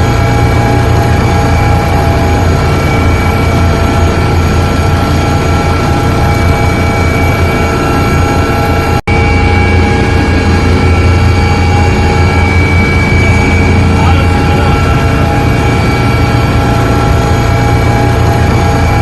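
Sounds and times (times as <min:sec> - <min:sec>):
constant whine: 0:00.0 - 0:19.0
helicopter engine and rotor drone: 0:00.0 - 0:19.0.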